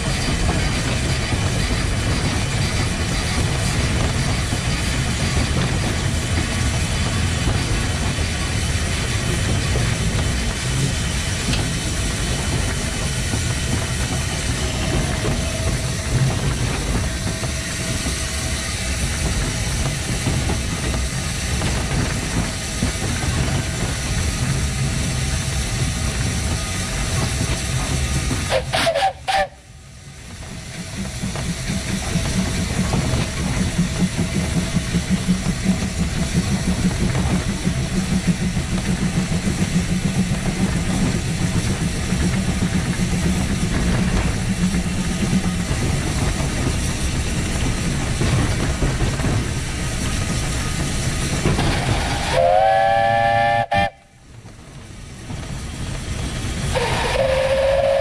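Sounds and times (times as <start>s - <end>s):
steam hissing: 0.0s - 58.0s
wheels rumbling on rail: 0.0s - 58.0s.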